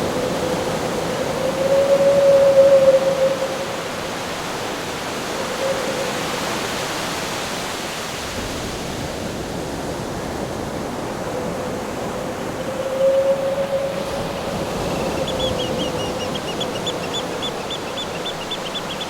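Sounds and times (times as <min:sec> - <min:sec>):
howling wind: 0:00.0 - 0:19.0.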